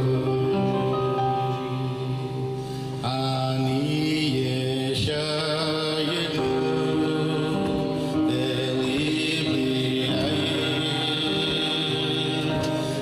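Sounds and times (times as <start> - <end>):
men singing slow melody: 0.0 - 13.0.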